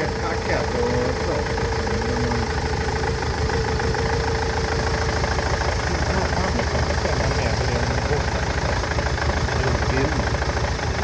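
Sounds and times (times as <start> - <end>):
van engine idling with misfire: 0.0 - 11.0.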